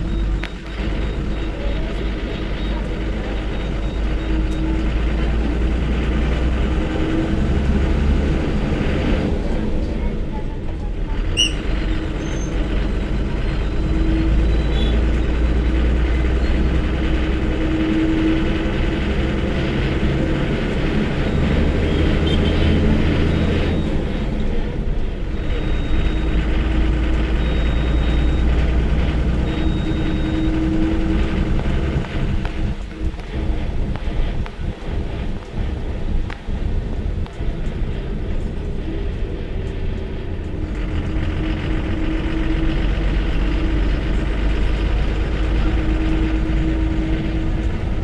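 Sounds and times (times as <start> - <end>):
diesel bus engine under load: 0.0 - 48.0.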